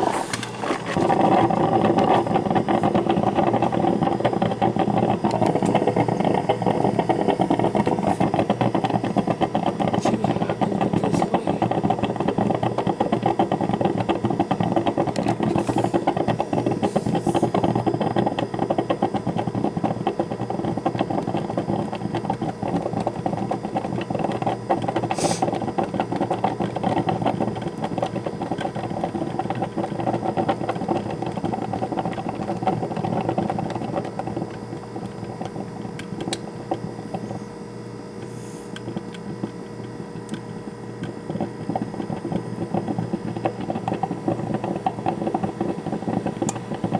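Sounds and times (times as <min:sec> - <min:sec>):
coffee maker gurgling: 0:00.0 - 0:46.9.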